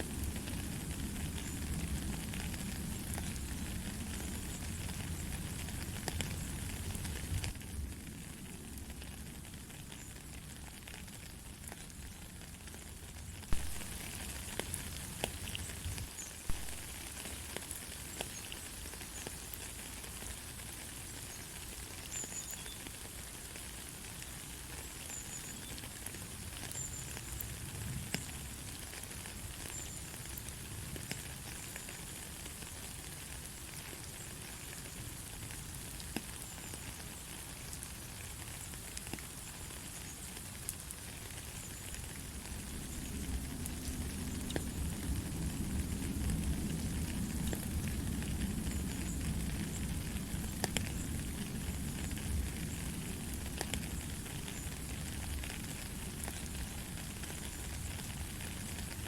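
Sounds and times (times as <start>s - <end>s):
light rain falling: 0.0s - 59.0s
rain drops ticking on surface: 0.0s - 59.0s.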